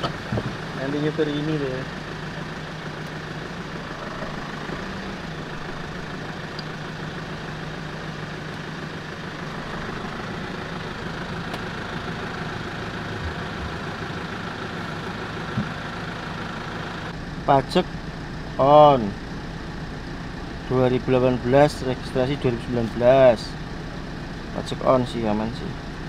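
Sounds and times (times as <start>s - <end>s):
pickup engine idling: 0.0s - 26.0s.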